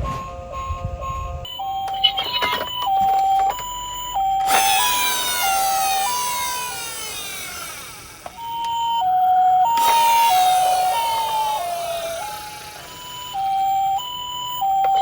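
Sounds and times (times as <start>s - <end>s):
two-tone siren: 0.0s - 15.0s.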